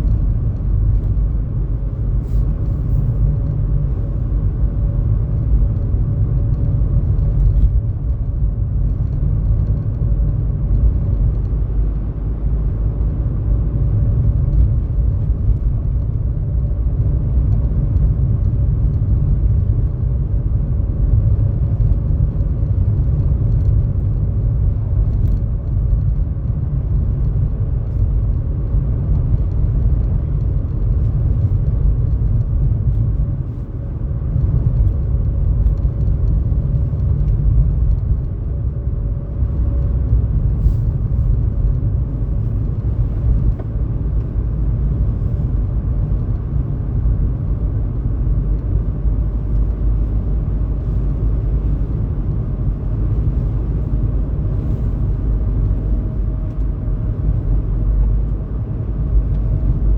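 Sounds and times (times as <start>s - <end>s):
faint constant hum: 0.0s - 59.9s
low rumble of car driving: 0.0s - 59.9s.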